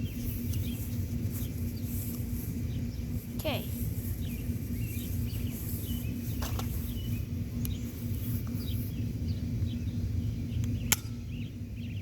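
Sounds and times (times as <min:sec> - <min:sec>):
faint steady hum: 0:00.0 - 0:12.0
low outdoor rumble: 0:00.0 - 0:12.0
small birds chirping: 0:00.0 - 0:12.0.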